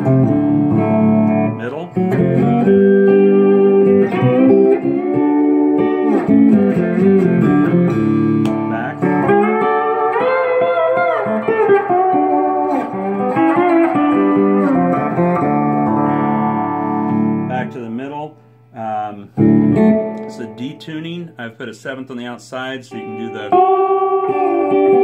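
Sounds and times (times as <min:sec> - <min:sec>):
steel guitar chords: 0:00.0 - 0:25.0.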